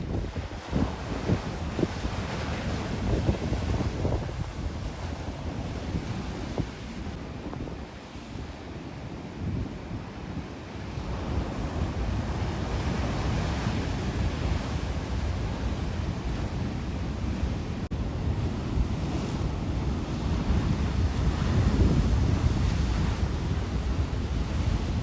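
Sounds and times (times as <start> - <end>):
wind buffeting microphone: 0.0 - 8.6, 11.0 - 25.0.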